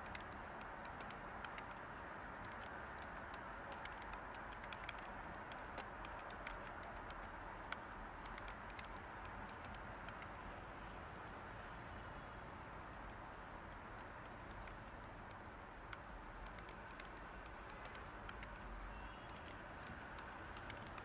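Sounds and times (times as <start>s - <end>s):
typing on computer keyboard: 0.0s - 10.4s, 13.7s - 21.0s
white noise hiss: 0.0s - 21.0s.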